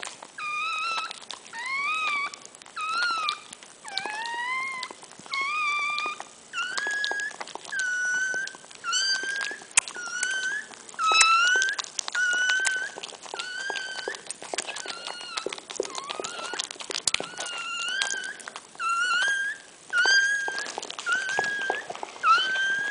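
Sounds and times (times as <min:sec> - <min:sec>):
puppy crying: 0:00.4 - 0:22.9.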